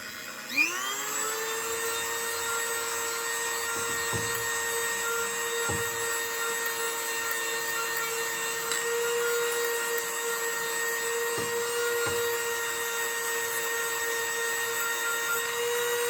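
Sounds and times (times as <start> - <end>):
rotary tool sanding metal: 1.0 - 16.0.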